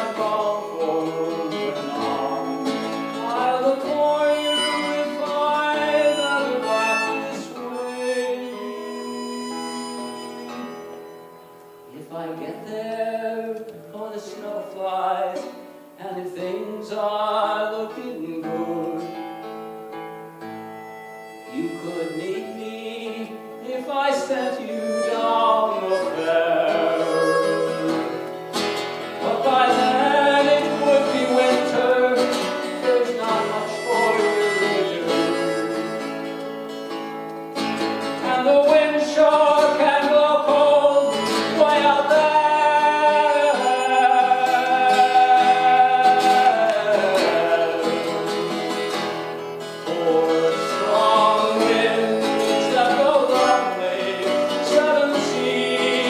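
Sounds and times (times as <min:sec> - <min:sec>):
person singing: 0:00.0 - 0:10.9, 0:11.8 - 0:19.4, 0:20.9 - 0:36.6, 0:38.2 - 0:56.0
acoustic guitar: 0:00.0 - 0:56.0.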